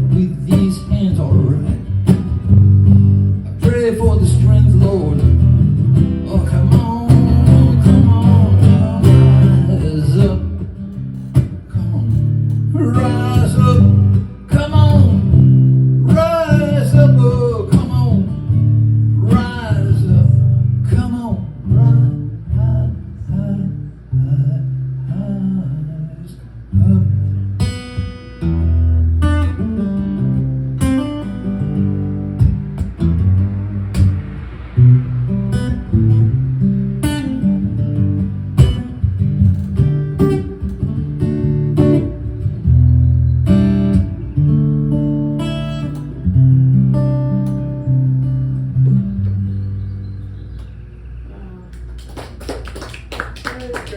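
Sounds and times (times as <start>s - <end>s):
acoustic guitar playing: 0.0s - 51.2s.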